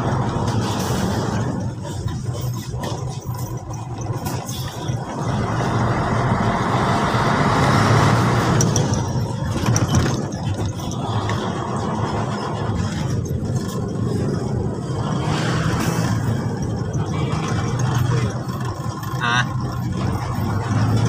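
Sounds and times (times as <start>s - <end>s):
truck engine rumble in cab: 0.0s - 21.0s.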